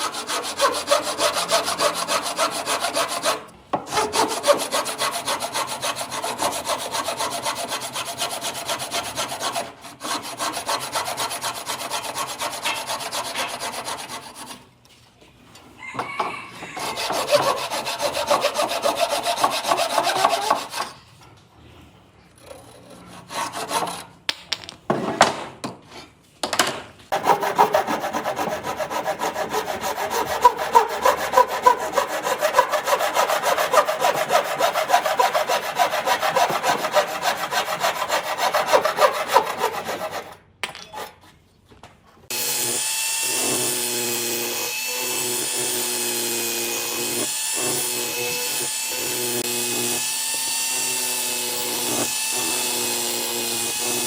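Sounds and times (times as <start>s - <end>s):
sawing wood: 0.0s - 14.7s, 16.0s - 21.1s, 22.4s - 24.2s, 27.1s - 40.4s, 42.3s - 54.0s.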